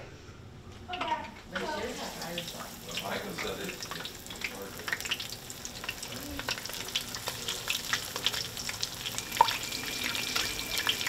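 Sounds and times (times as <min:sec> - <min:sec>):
fish deep-frying in oil: 0:01.5 - 0:11.0.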